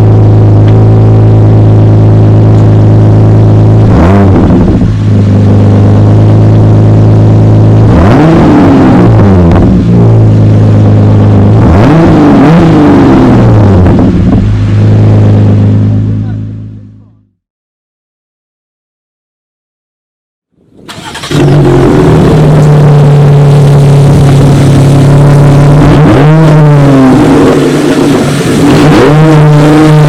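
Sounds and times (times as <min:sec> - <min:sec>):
car engine idling and revving: 0:00.0 - 0:17.2, 0:20.7 - 0:30.0.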